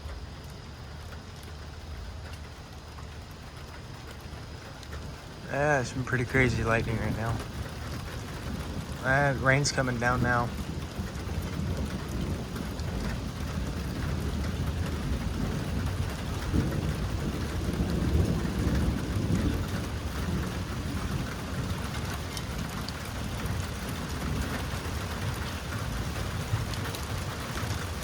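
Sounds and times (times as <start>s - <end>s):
heavy rain: 0.0s - 28.0s
low rumble of thunder: 0.0s - 28.0s.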